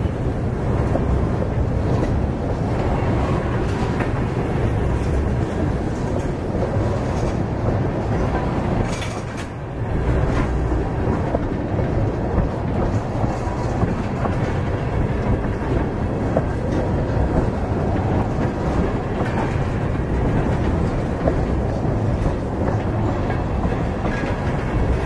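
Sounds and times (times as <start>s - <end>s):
freight train rumbling: 0.0s - 25.0s.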